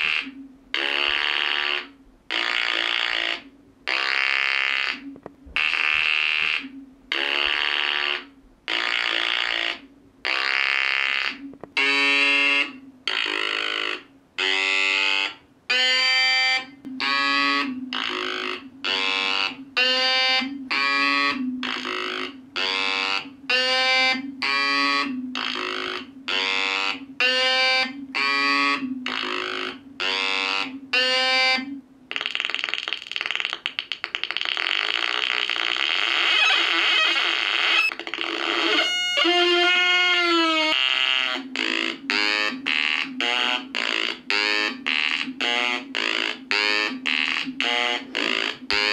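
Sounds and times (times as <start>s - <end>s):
harsh buzzy synth notes: 0.0s - 5.0s, 5.6s - 33.5s, 34.1s - 48.9s.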